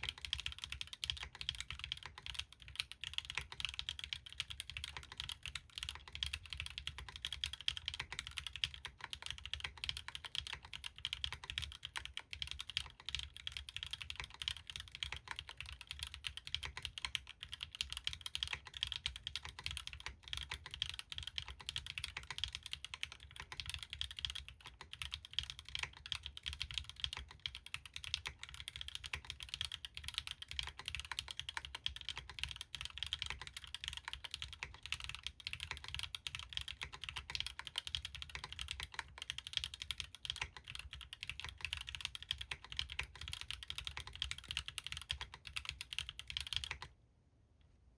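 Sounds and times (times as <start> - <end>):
fast mechanical keyboard typing: 0.0 - 46.9.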